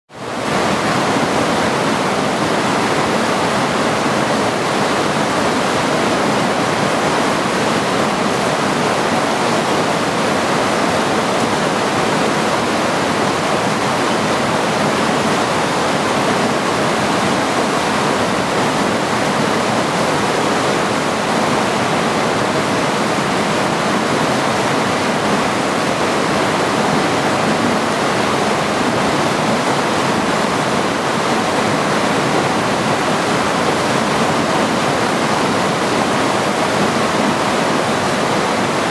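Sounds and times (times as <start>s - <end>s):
creek rushing over rocks: 0.1s - 38.9s.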